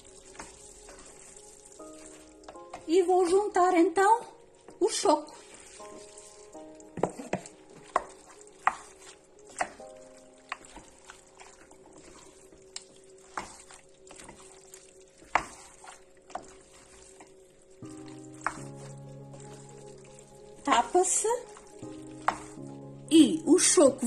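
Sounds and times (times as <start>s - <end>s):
wooden spoon stirring stew: 0.0s - 3.7s, 4.5s - 23.1s.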